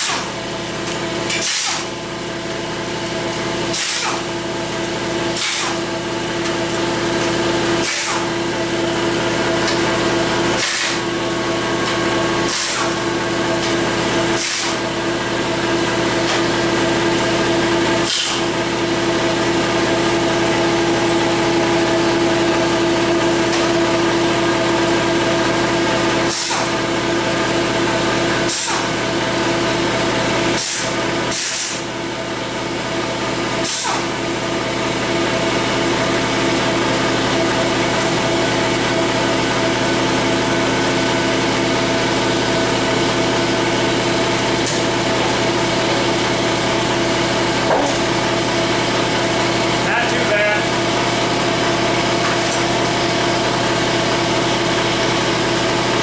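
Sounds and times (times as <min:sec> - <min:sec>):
heater blower humming: 0:00.0 - 0:56.0.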